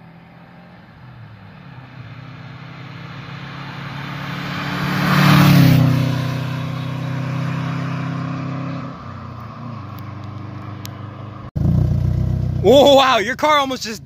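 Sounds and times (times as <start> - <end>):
car driving past at speed: 0.0 - 12.7.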